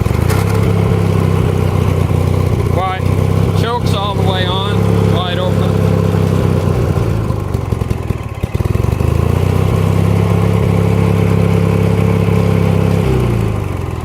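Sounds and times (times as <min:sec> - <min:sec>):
riding mower engine running: 0:00.0 - 0:14.0.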